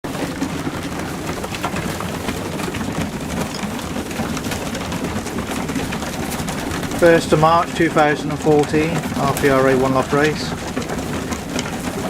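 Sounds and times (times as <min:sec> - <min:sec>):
pigeons pattering and rustling: 0:00.0 - 0:12.0.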